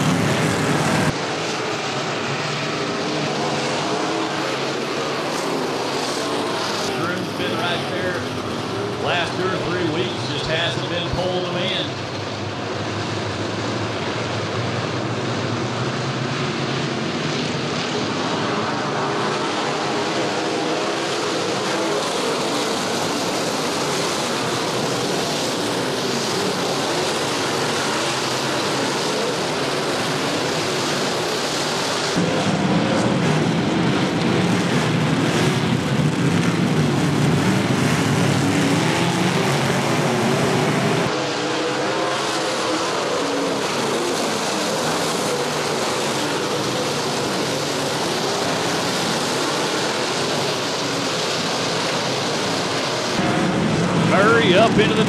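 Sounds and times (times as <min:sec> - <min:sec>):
race car engines roaring: 0:00.0 - 0:55.0.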